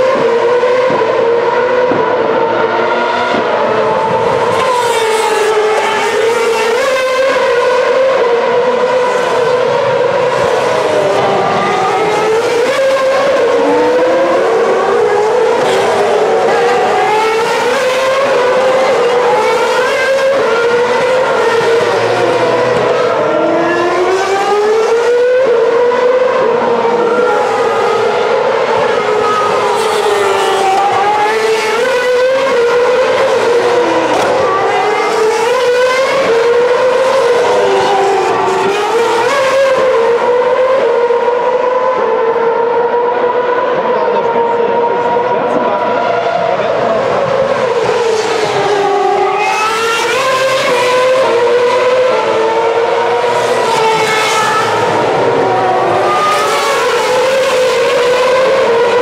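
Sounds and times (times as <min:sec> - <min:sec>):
racing car engines at high revs: 0:00.0 - 0:59.0.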